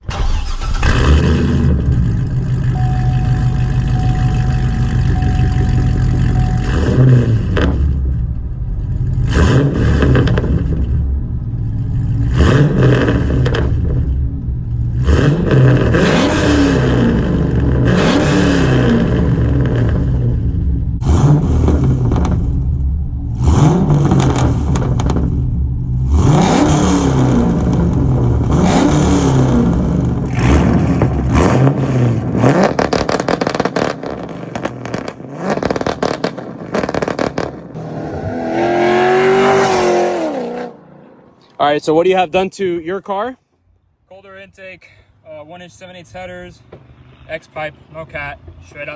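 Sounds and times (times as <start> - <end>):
car engine revving: 0.0 - 42.7.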